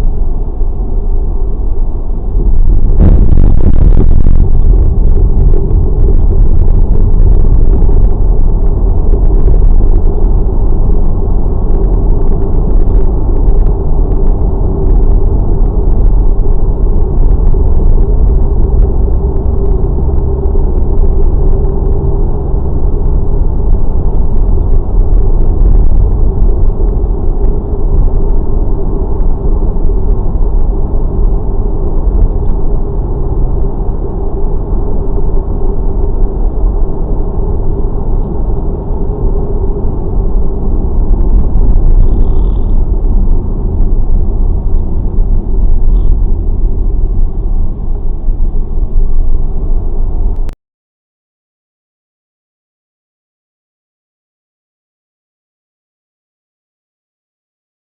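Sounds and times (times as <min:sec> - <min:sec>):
vehicle rumbling: 0:00.0 - 0:50.6.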